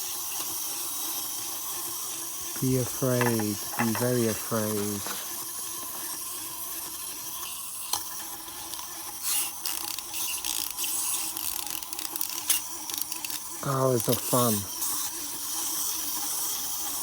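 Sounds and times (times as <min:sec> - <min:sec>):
wind-up toys whirring: 0:00.0 - 0:17.0.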